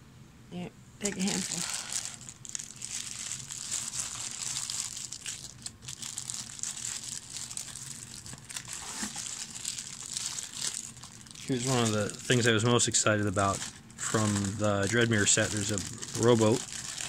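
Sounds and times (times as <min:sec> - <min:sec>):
plastic bags crinkling: 0:01.0 - 0:17.0.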